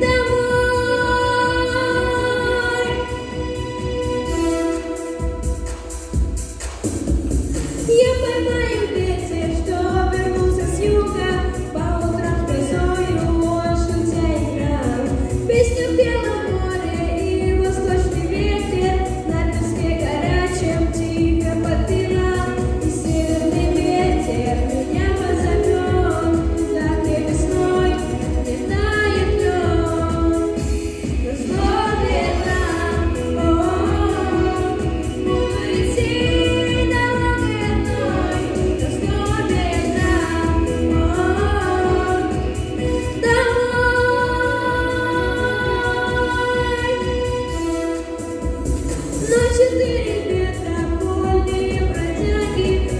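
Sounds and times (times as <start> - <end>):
backing track with low beat: 0.0 - 52.9.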